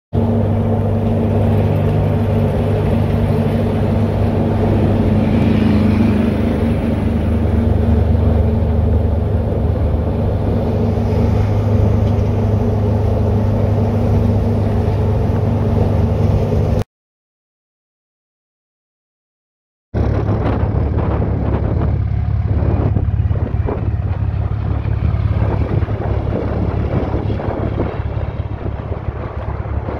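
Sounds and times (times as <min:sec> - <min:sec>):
road and wind noise in truck: 0:00.1 - 0:16.9, 0:20.0 - 0:29.9.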